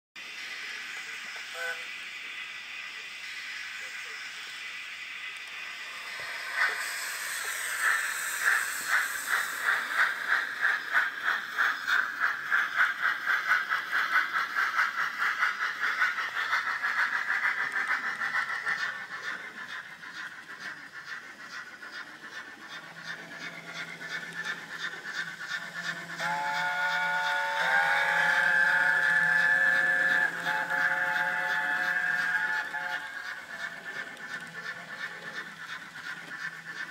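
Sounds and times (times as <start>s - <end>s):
steam locomotive exhaust chuffs: 0.2s - 36.9s.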